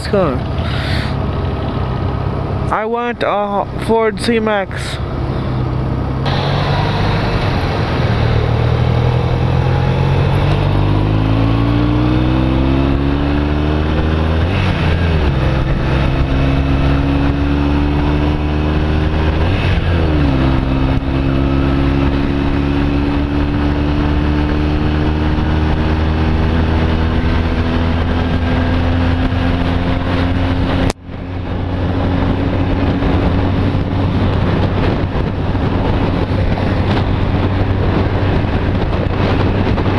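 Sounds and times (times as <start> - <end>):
motorcycle engine accelerating: 0.0 - 2.8, 4.8 - 39.9
wind noise: 0.0 - 39.9.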